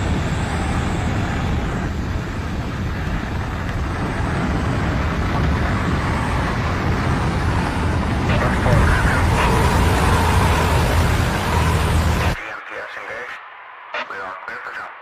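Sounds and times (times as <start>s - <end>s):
airplane engine and wind noise: 0.0s - 13.2s.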